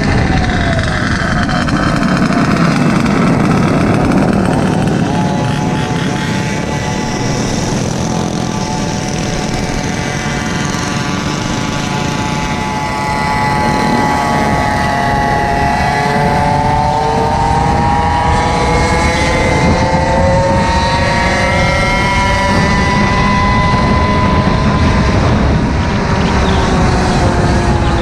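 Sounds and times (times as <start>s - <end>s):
small gasoline engine under load: 0.0s - 28.0s
wind noise: 0.0s - 28.0s.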